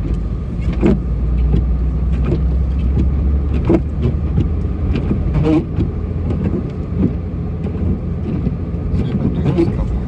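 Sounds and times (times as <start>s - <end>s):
snowplow engine running: 0.0s - 10.0s.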